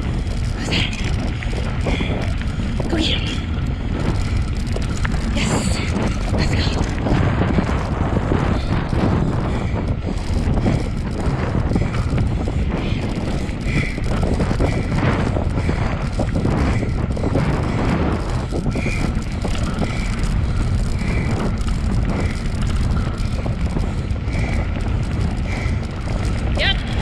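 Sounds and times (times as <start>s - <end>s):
bicycle rolling over dirt trail: 0.0s - 27.0s
wind buffeting microphone: 0.0s - 27.0s.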